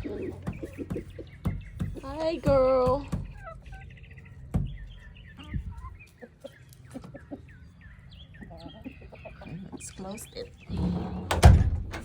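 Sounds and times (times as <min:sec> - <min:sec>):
hens clucking and chirping: 0:00.0 - 0:11.3.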